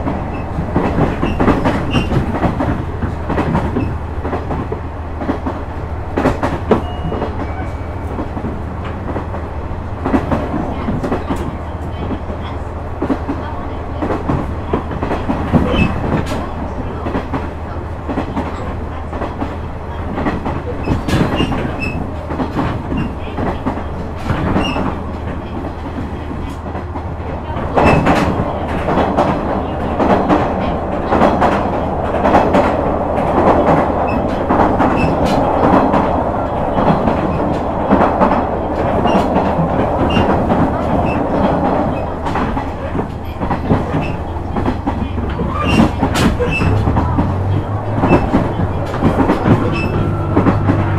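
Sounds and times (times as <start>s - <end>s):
diesel railcar hum: 0.0s - 50.9s
wheels clacking over rail joints: 0.0s - 50.9s.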